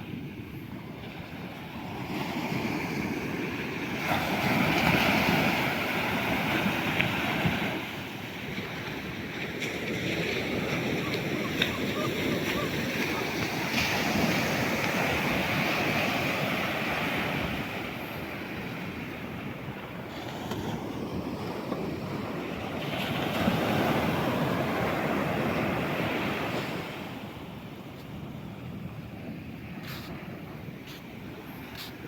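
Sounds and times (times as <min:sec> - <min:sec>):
sea waves surging: 0:00.0 - 0:32.0.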